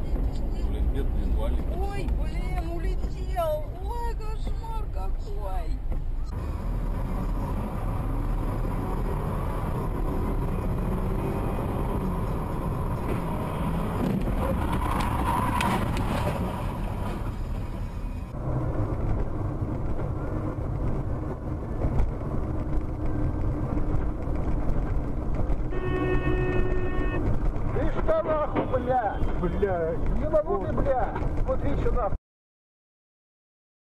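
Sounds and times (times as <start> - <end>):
road and engine rumble in car: 0.0 - 32.2.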